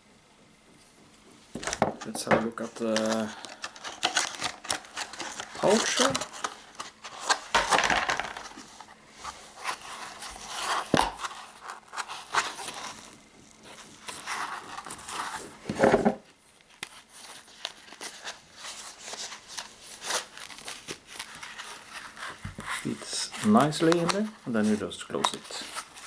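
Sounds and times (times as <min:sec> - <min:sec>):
pouch rustling and crinkling: 0:01.4 - 0:26.0.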